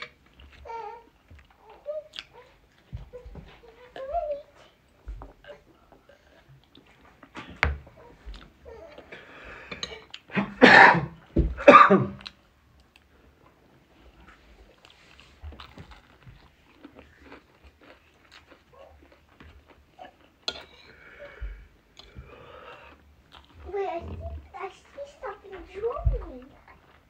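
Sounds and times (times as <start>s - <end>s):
chewing and crunching food: 0.0s - 10.3s, 12.2s - 27.0s.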